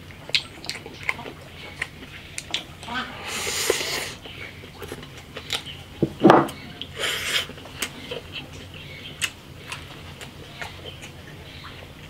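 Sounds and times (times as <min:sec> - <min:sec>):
wet chewing sounds: 0:00.0 - 0:12.0.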